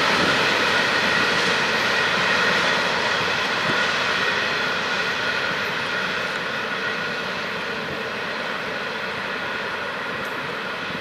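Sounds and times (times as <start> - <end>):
freight train rolling: 0.0 - 11.0.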